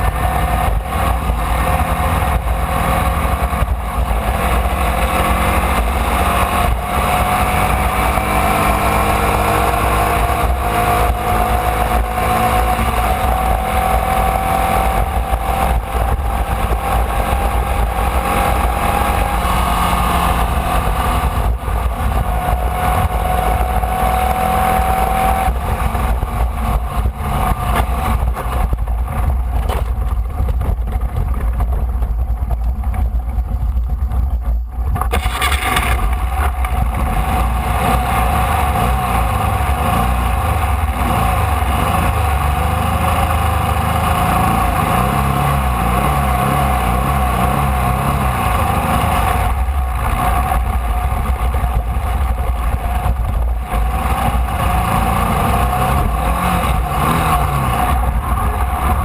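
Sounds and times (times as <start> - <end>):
wind buffeting microphone: 0.0 - 43.4, 49.0 - 59.0
race car engine at speed: 0.0 - 59.0.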